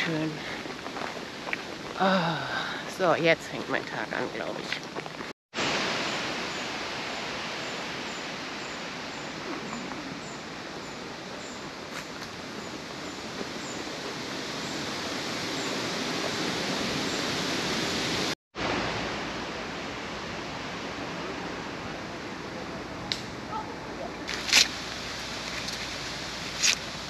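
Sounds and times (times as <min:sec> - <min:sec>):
wind noise on microphone: 0:00.0 - 0:27.0.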